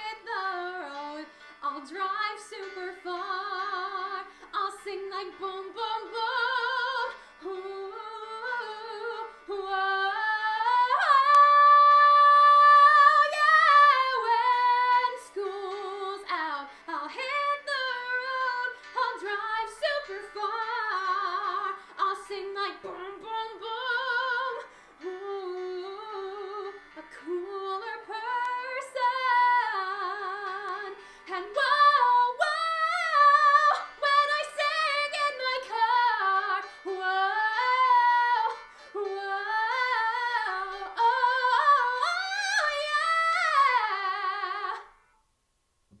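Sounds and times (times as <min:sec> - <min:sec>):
woman singing wordless riffs: 0:00.0 - 0:45.1.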